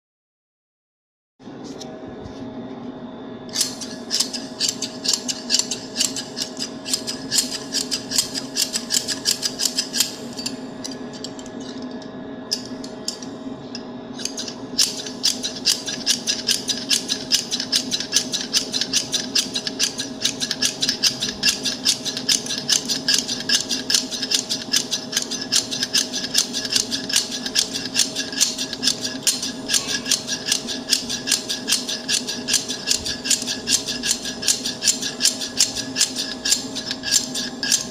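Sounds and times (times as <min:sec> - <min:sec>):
steady background hum: 0:01.4 - 0:37.9.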